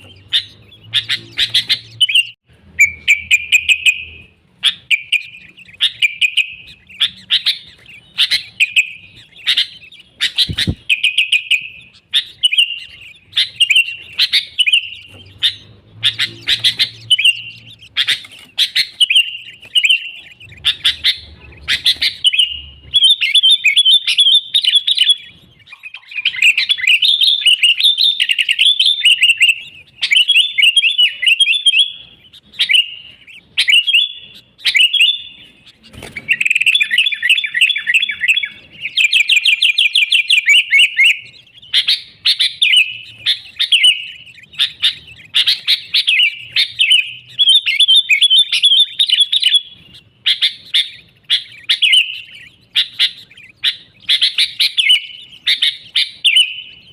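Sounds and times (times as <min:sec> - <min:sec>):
bulbul singing: 0:00.0 - 0:56.9.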